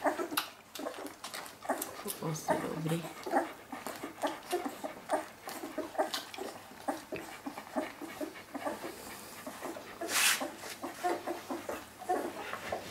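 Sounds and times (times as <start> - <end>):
dog panting: 0.0 - 12.9
puppies squeaking and whimpering: 0.0 - 12.9
puppies suckling: 0.0 - 12.9.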